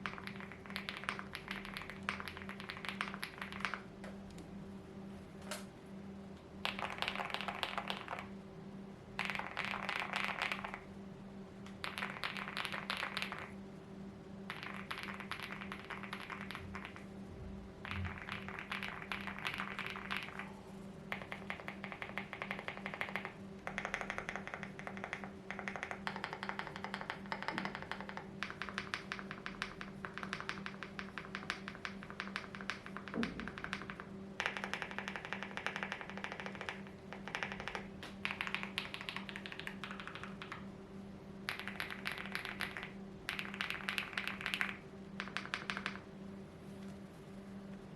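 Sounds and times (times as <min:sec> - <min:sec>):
mechanical keyboard typing: 0:00.0 - 0:03.9, 0:06.6 - 0:08.3, 0:09.2 - 0:10.9, 0:11.7 - 0:13.5, 0:14.5 - 0:17.1, 0:17.8 - 0:20.5, 0:21.1 - 0:40.7, 0:41.5 - 0:46.0
steady low hum: 0:00.0 - 0:47.9.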